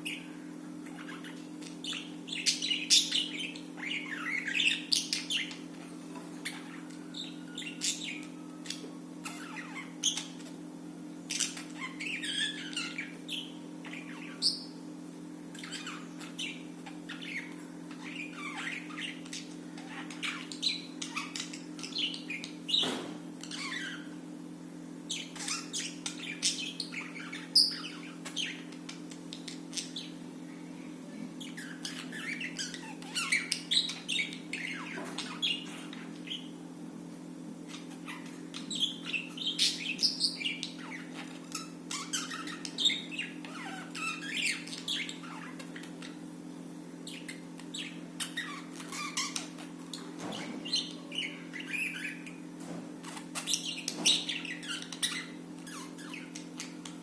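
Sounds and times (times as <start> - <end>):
budgerigars chirping and squawking: 0.0 - 24.4, 25.0 - 30.6, 31.3 - 36.7, 37.6 - 57.0.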